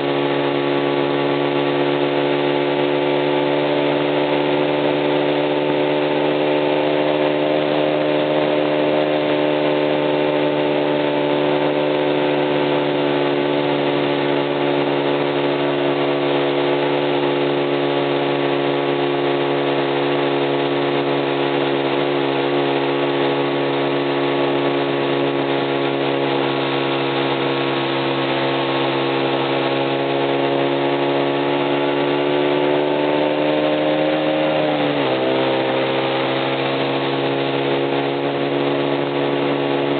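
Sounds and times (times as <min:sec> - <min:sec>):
small engine running at fast idle: 0:00.0 - 0:39.9.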